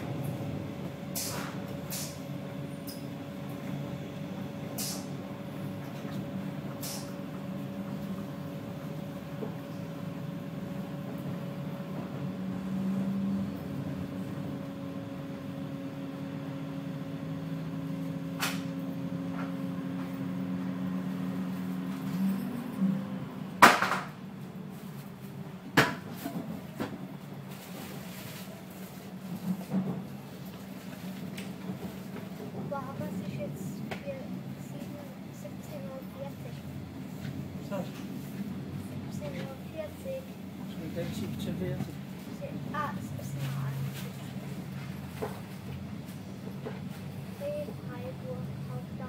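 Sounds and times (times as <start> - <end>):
moving train running hum: 0.0 - 49.0.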